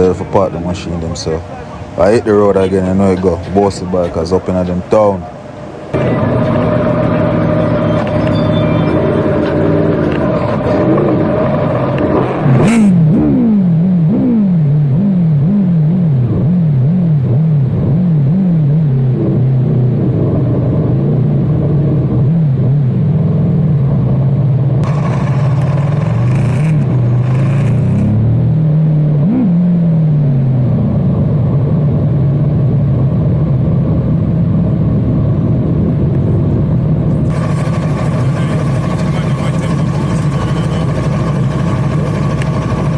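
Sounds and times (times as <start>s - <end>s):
motorcycle engine revving: 6.0s - 42.9s.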